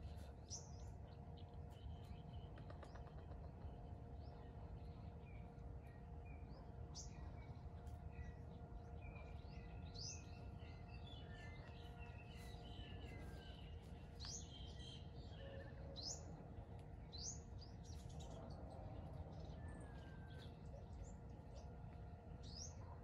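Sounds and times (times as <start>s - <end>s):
low background rumble: 0.0s - 23.0s
small birds chirping: 0.0s - 23.0s.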